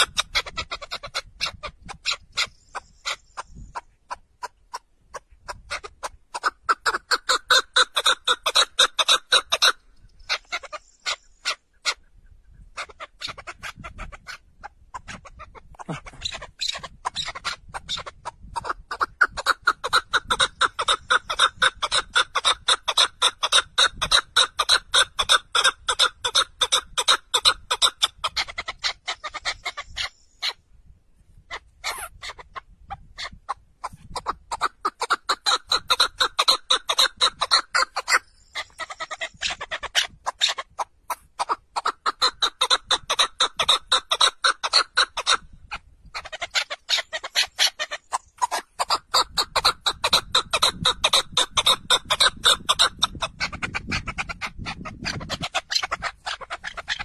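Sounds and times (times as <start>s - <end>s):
partridge chucking calls: 0.0s - 30.6s, 31.4s - 57.0s.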